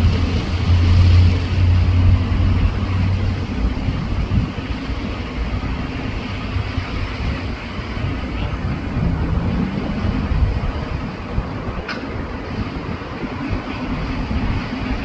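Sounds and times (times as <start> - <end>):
low engine drone: 0.0 - 15.0
steady rushing noise: 0.0 - 15.0.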